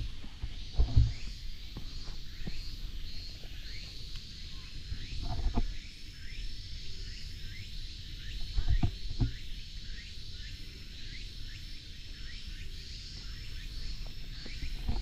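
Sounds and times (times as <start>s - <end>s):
insect chirps: 0.0s - 15.0s
insect drone: 0.0s - 15.0s.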